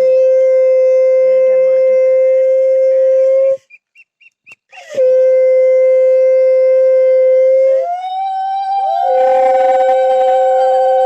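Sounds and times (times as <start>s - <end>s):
conch shell higher note: 0.0s - 3.5s, 5.0s - 11.0s
conch shell low note: 0.0s - 3.5s, 5.0s - 11.0s.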